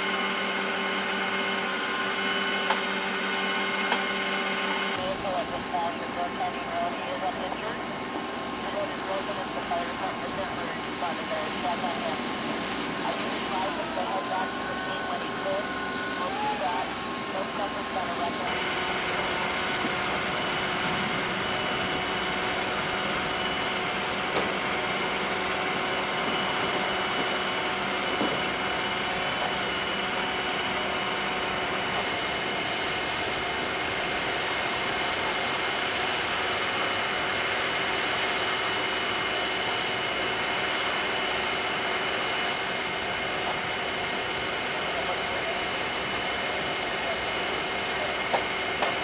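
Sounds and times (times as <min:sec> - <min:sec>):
vehicle engine and traffic drone: 0:00.0 - 0:49.0.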